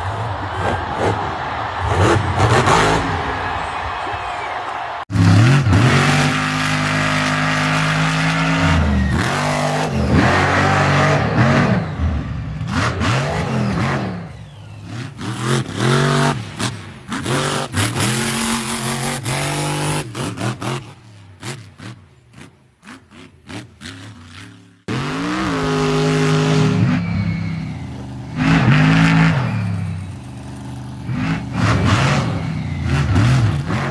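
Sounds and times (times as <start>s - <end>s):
monster truck engine revving: 0.0s - 33.9s.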